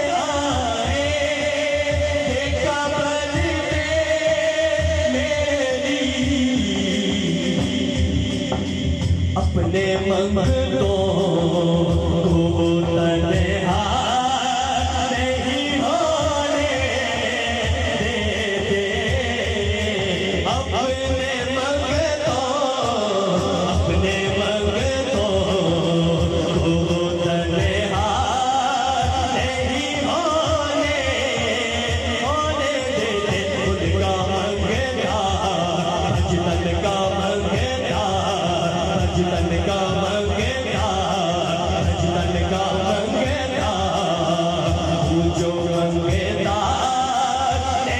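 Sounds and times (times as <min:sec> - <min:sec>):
man singing through microphone: 0:00.0 - 0:47.9
rhythmic backing: 0:00.0 - 0:47.9.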